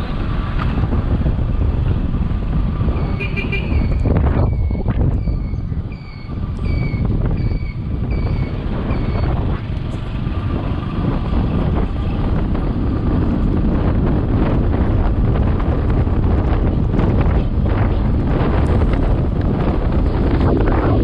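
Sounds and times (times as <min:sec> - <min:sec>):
motorcycle road noise: 0:00.0 - 0:21.0
wind buffeting microphone: 0:00.0 - 0:21.0.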